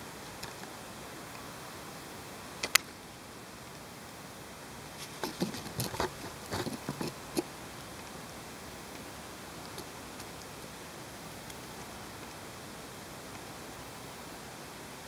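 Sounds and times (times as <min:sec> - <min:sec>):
faint hiss: 0:00.0 - 0:15.0
rustles: 0:00.0 - 0:15.0.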